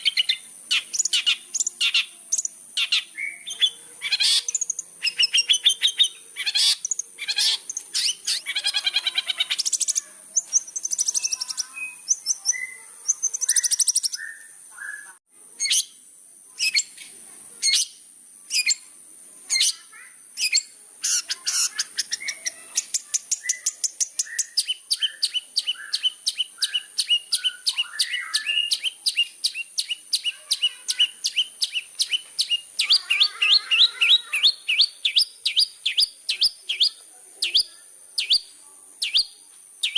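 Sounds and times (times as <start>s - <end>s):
bird chattering song: 0.0s - 18.9s, 19.5s - 39.9s
high-pitched hiss: 0.0s - 39.9s.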